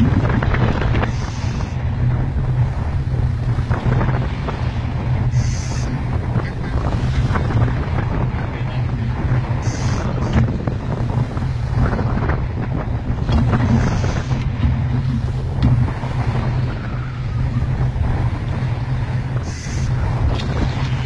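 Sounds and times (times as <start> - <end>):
steady low rumble: 0.0 - 21.0
wind buffeting microphone: 0.0 - 21.0.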